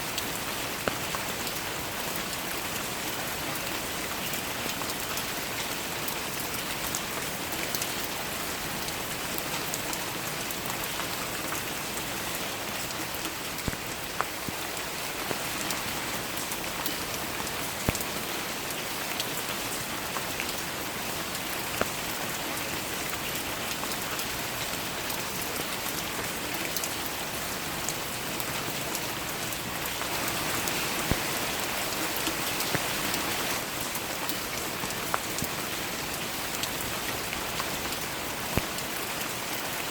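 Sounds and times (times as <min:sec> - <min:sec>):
raindrops striking close by: 0:00.0 - 0:39.9
steady rain falling: 0:00.0 - 0:39.9.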